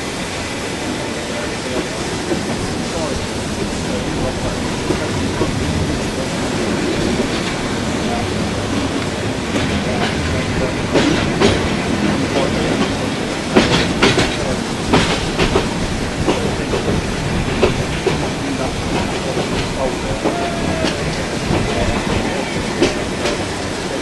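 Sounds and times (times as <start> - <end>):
train rumbling on track: 0.0 - 24.0.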